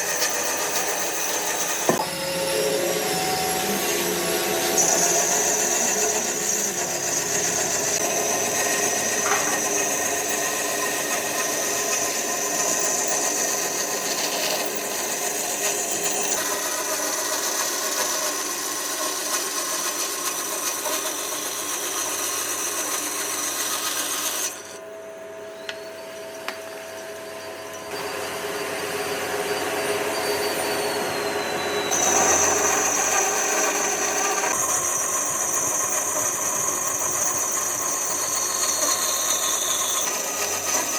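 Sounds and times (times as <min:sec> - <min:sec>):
power tool cutting wood: 0:00.0 - 0:24.8, 0:26.5 - 0:40.9.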